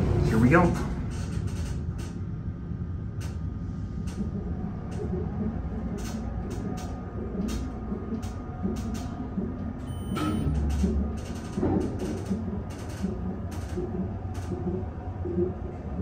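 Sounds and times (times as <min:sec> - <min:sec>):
elevator rumble and hum: 0:00.0 - 0:16.0.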